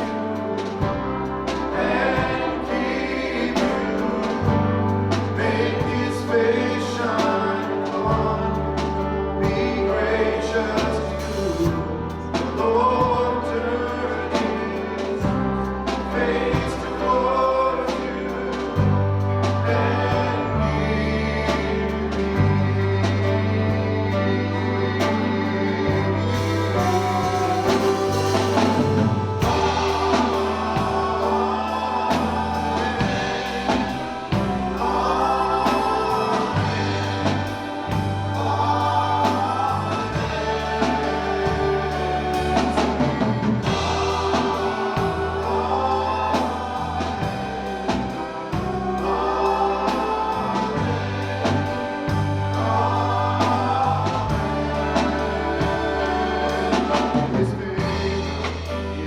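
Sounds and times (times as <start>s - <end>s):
held bass notes: 0.0s - 59.0s
worship band and singers: 0.0s - 59.0s.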